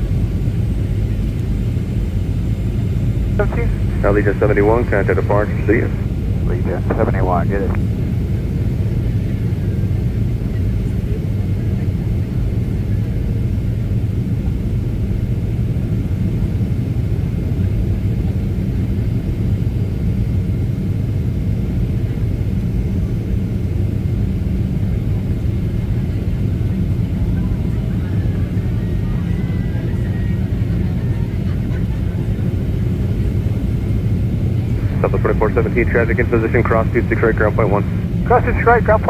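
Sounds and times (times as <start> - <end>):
airliner cabin engine rumble: 0.0 - 39.0.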